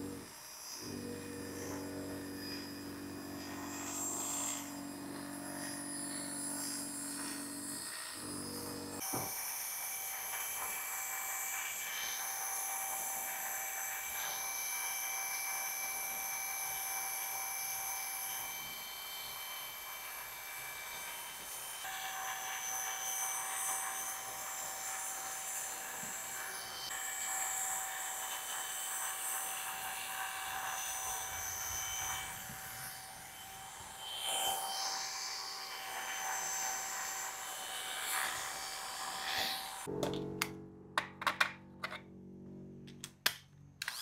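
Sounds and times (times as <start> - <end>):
electric hair clipper buzzing: 0.0 - 17.5, 19.4 - 39.9.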